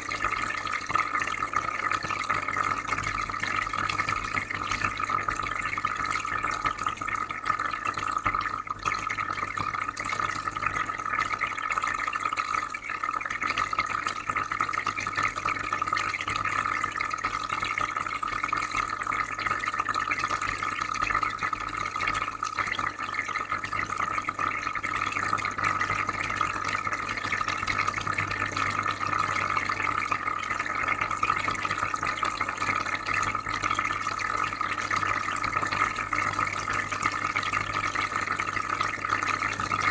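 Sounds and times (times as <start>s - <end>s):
aquarium filter bubbling water: 0.0s - 39.9s.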